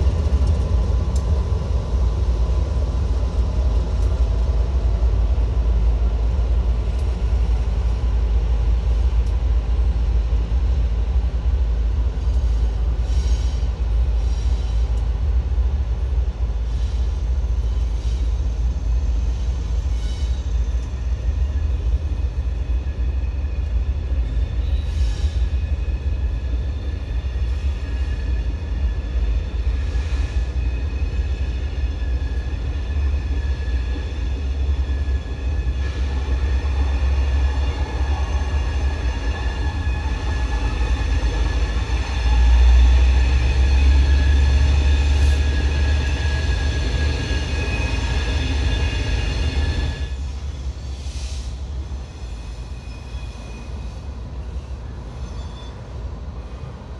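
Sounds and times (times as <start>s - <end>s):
freight train deep rumble: 0.0s - 56.9s.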